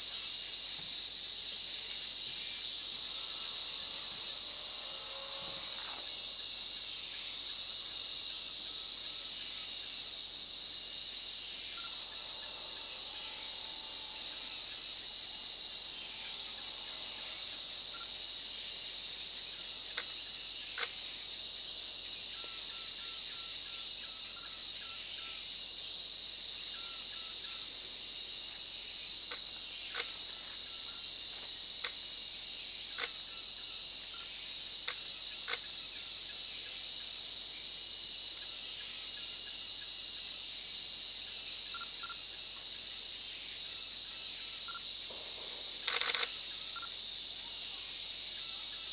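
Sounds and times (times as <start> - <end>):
high-pitched insect chorus: 0.0 - 48.9.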